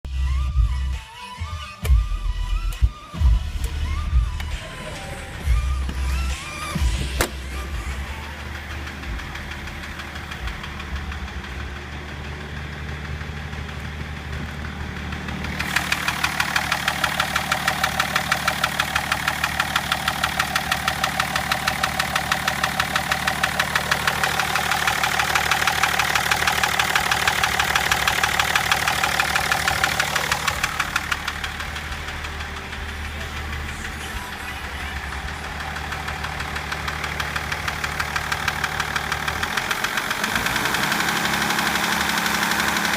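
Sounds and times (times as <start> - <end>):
diesel engine knocking: 2.8 - 42.9.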